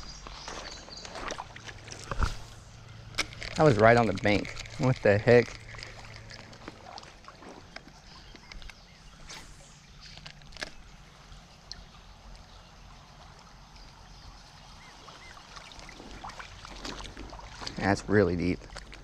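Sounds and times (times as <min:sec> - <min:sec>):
shallow creek water: 0:00.0 - 0:19.0.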